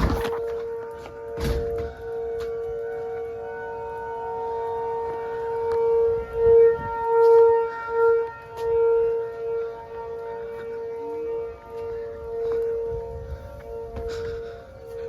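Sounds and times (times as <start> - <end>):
tornado warning siren: 0.0 - 15.0.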